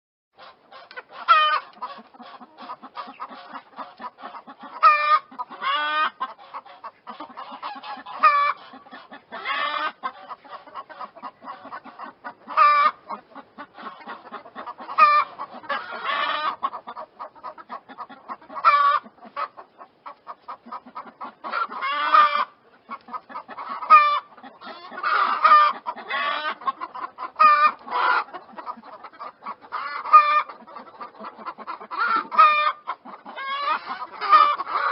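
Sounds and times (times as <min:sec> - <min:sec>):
chickens clucking: 0:00.4 - 0:34.9.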